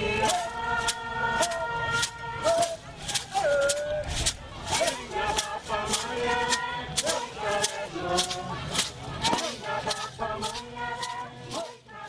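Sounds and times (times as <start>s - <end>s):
group singing a chant: 0.0s - 12.0s
sticks clacking: 0.3s - 11.8s.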